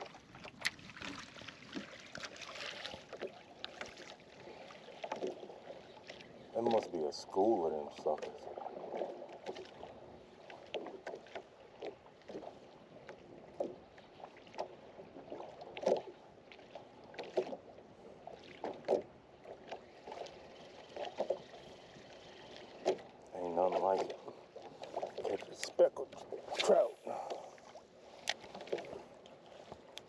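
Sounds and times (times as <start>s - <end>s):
small waves slapping against hull: 0.0s - 30.0s.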